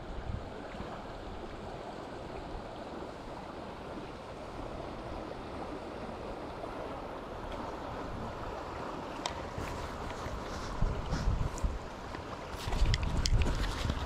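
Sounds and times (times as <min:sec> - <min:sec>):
river current rushing: 0:00.0 - 0:14.0.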